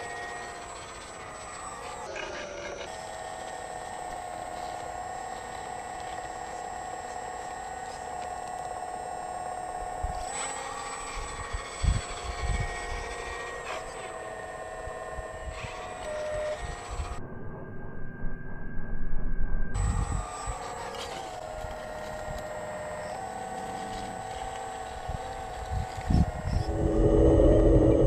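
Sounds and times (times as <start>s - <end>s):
hydraulic pump whining: 0.0s - 17.2s, 19.8s - 28.0s.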